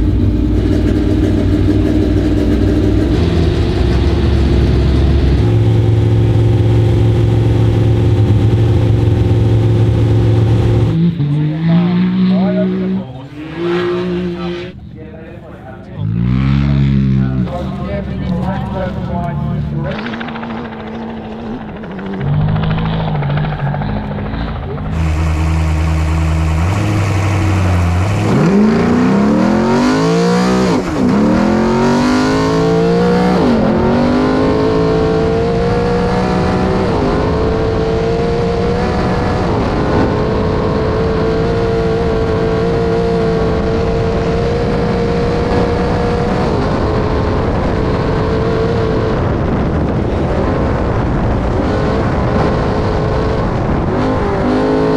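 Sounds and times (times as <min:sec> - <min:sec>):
race truck engine accelerating: 0:00.0 - 0:54.9.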